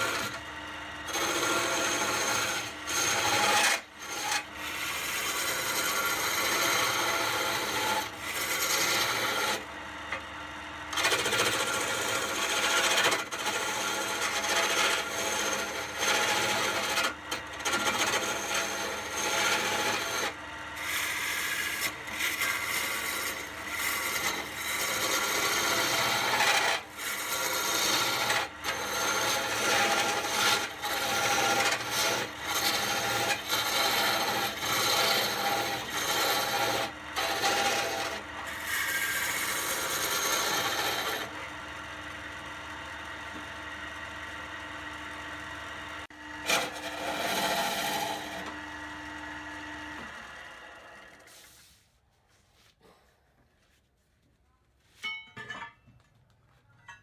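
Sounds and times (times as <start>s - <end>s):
lathe tool scraping wood: 0.0s - 41.7s, 45.8s - 51.8s.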